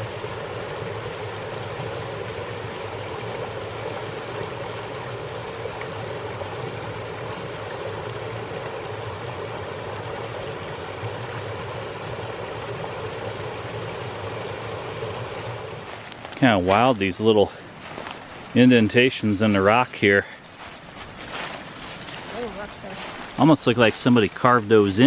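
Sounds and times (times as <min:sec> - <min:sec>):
creek rushing over rocks: 0:00.0 - 0:25.0.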